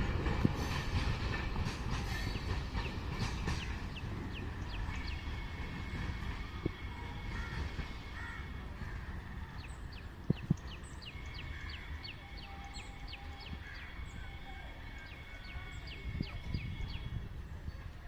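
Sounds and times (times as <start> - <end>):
birds chirping: 2.0 - 18.0.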